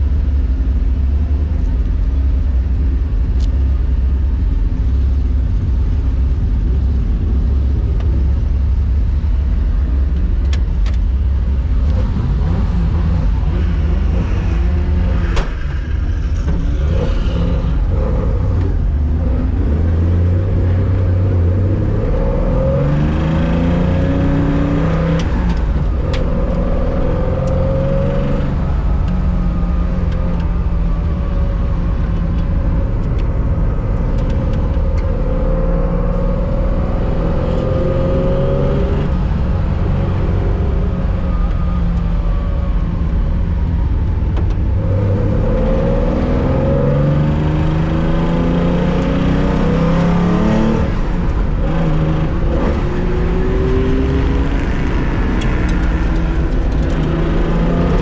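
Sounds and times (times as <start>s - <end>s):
car engine rumbling and revving: 0.0s - 58.0s.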